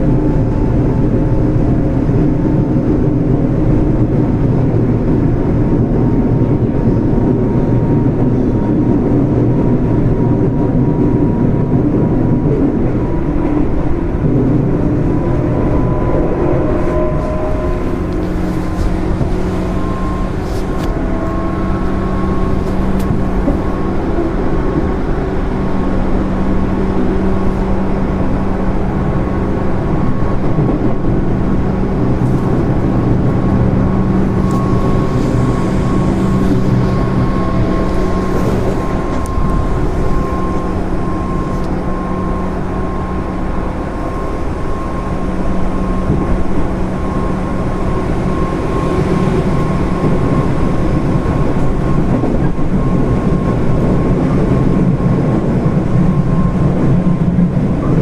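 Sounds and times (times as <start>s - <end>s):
low hum: 0.0s - 58.0s
thin high whine: 0.0s - 58.0s
train wheels on rail: 0.0s - 58.0s.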